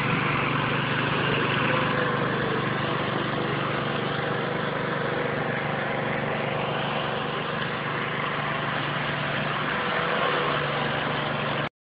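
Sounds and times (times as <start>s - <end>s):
small engine running: 0.0s - 11.7s.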